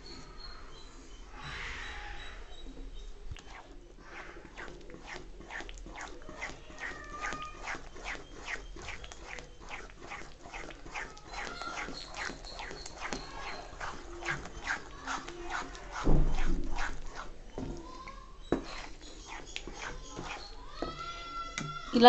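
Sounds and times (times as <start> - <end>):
spoon stirring thick mixture in pan: 2.4 - 22.0.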